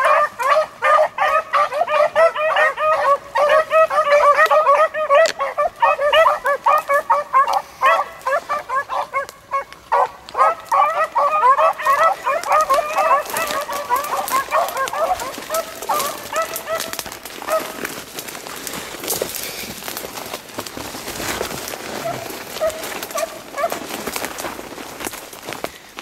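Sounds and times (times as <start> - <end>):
dogs baying: 0.0 - 19.3, 20.9 - 24.4.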